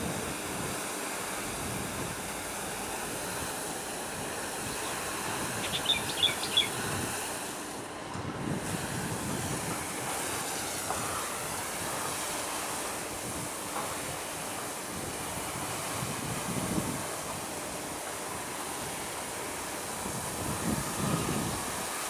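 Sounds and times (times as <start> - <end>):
wind blowing across microphone: 0.0 - 12.2, 12.8 - 17.9, 19.9 - 22.0
steady rushing outdoor noise: 0.0 - 22.0.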